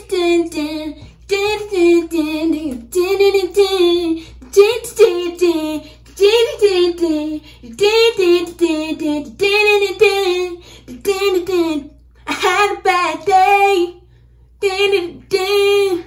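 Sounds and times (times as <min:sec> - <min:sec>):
woman singing unaccompanied: 0:00.0 - 0:14.0, 0:14.6 - 0:16.0.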